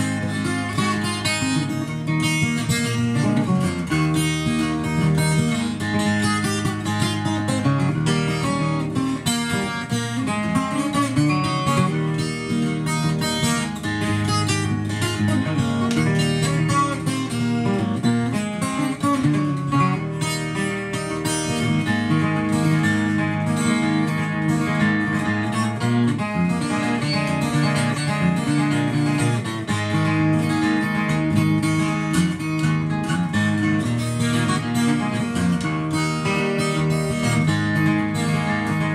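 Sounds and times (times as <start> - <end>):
fingerpicked acoustic guitar: 0.0 - 38.9.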